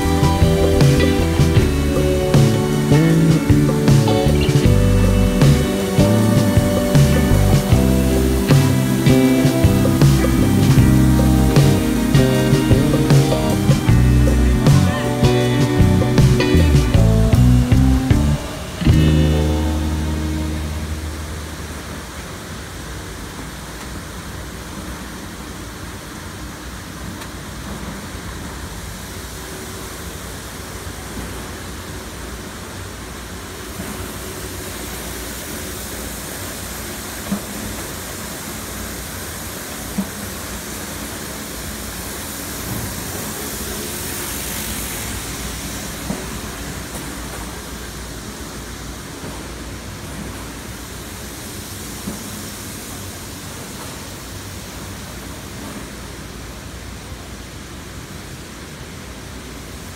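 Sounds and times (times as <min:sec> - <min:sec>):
conveyor machinery hum and hiss: 0:00.0 - 0:59.9.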